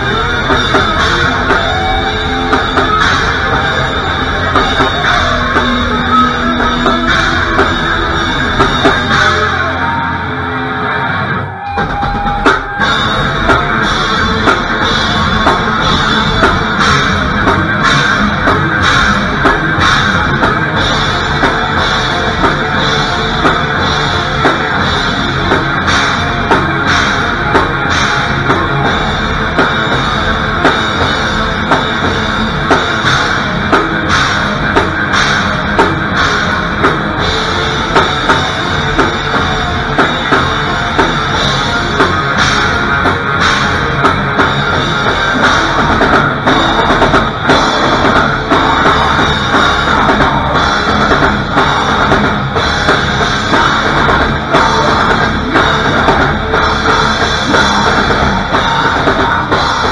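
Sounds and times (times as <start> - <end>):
drum and cymbal hits: 0.0 - 59.9
live heavy metal band: 0.0 - 59.9.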